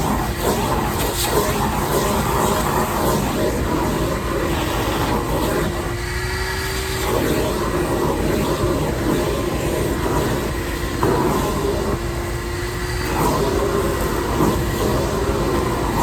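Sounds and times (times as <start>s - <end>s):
shop vac rushing hiss: 0.0s - 16.0s.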